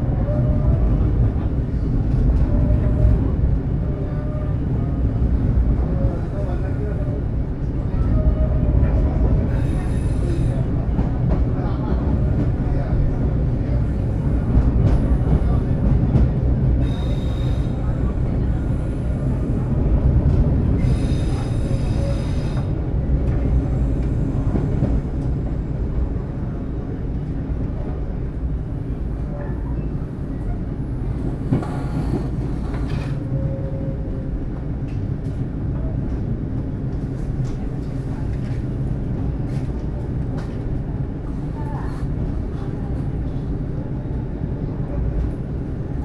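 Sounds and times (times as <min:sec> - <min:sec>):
train rumbling inside carriage: 0:00.0 - 0:46.0.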